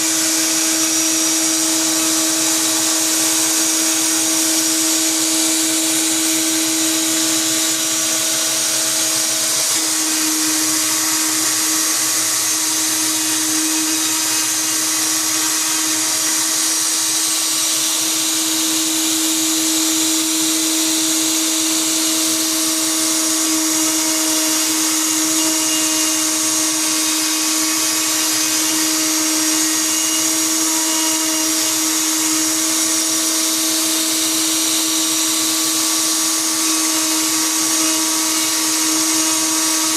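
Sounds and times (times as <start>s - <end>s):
loud airy hiss: 0.0s - 39.9s
router motor whining: 0.0s - 39.9s.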